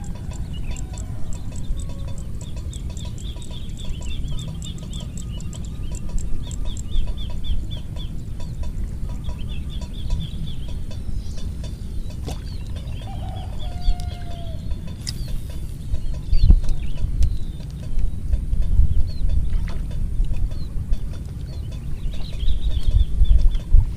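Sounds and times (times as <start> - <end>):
birds chirping: 0.0 - 23.9
wind on microphone: 0.0 - 23.9.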